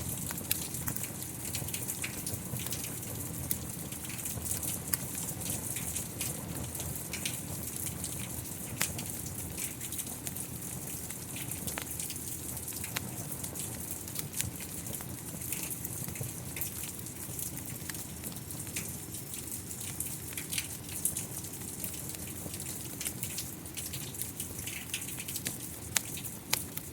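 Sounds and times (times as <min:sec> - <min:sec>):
steady rain falling: 0:00.0 - 0:26.9
wood fire crackling: 0:00.0 - 0:26.9.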